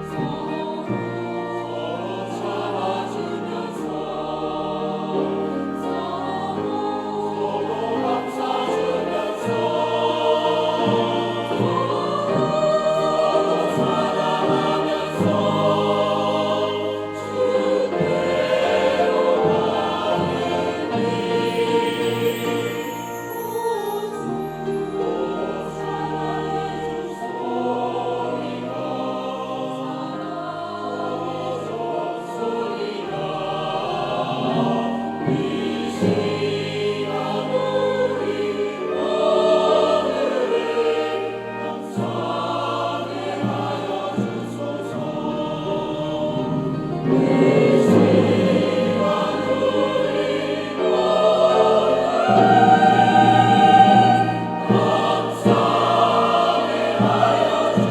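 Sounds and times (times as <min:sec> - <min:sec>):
church choir singing a hymn: 0:00.0 - 0:57.9.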